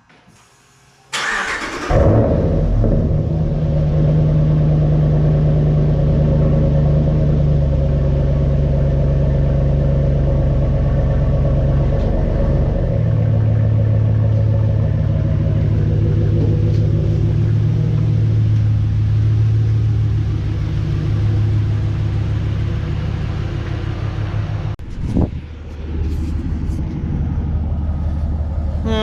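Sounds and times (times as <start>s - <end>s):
engine running: 1.1s - 29.0s.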